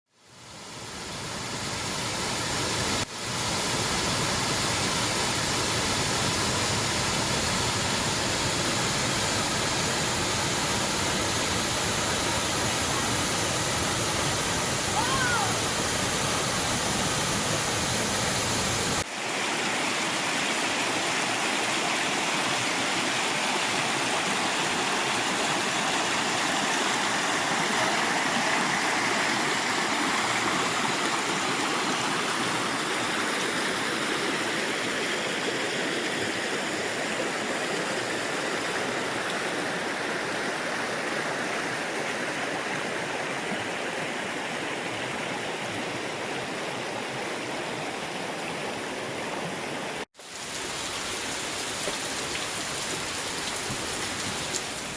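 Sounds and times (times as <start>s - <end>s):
waterfall rushing: 1.2s - 54.9s.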